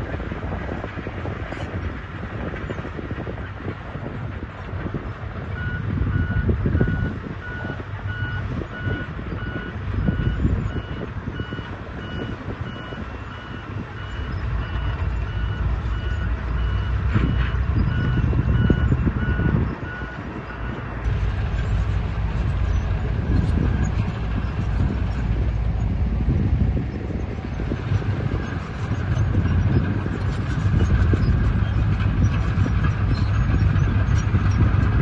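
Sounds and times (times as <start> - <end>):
diesel engine rumble: 0.0 - 35.0.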